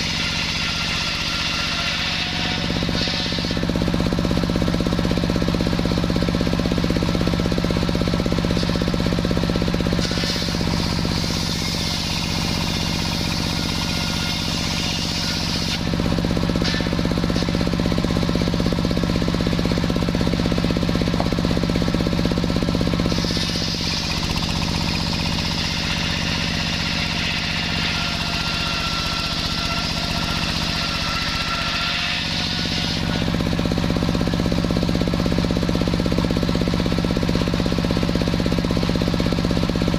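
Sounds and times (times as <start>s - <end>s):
saw cutting log hissing whine: 0.0s - 36.7s
sawmill saw engine drone: 0.0s - 39.9s.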